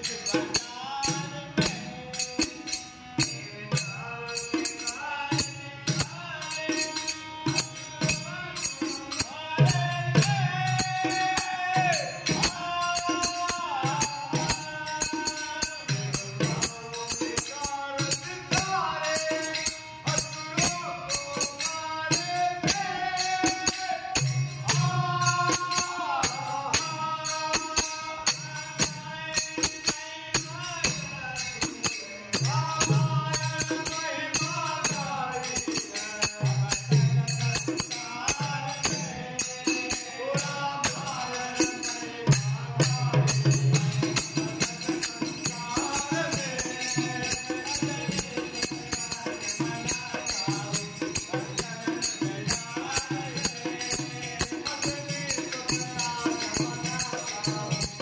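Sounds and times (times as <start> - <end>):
dholak drum: 0.0 - 58.0
hand cymbals: 0.0 - 58.0
harmonium: 0.0 - 58.0
men singing devotional song: 0.0 - 58.0.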